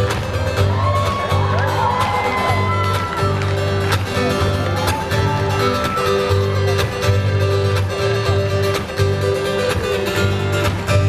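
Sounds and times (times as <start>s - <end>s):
strummed guitar: 0.0s - 11.0s.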